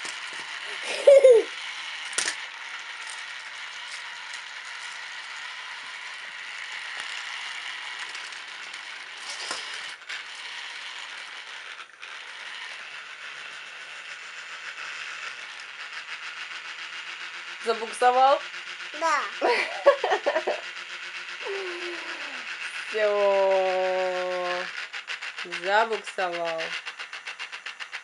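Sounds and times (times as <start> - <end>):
toy motor ticking rattle: 0.0 - 28.0.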